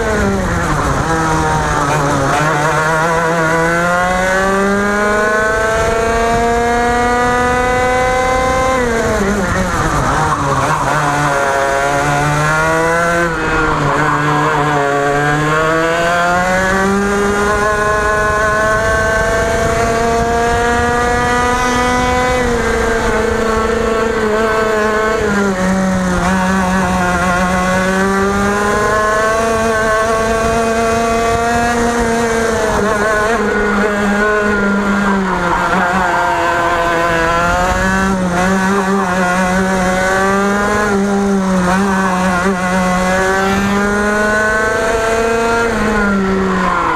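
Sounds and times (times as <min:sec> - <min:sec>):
two-stroke kart engine racing: 0:00.0 - 0:46.9.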